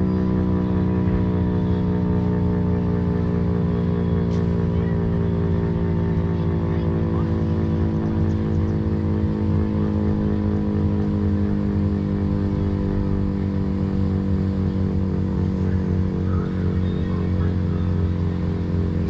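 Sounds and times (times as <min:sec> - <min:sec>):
mechanical siren low drone: 0:00.0 - 0:19.0.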